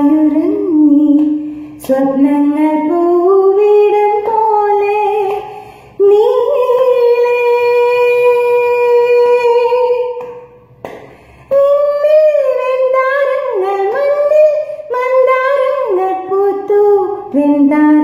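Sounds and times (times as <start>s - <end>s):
woman singing unaccompanied: 0.0s - 10.4s, 11.5s - 18.0s.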